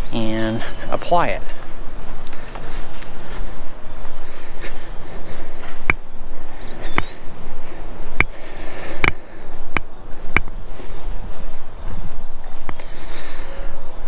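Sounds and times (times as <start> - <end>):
footsteps on hard path: 0.0 - 13.9
bird chirping: 0.0 - 14.0
insects trilling: 0.0 - 14.0.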